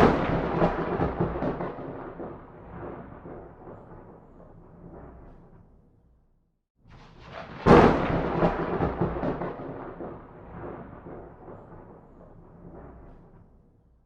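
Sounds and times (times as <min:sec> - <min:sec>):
thunderclap: 0:00.0 - 0:05.8, 0:06.9 - 0:13.7.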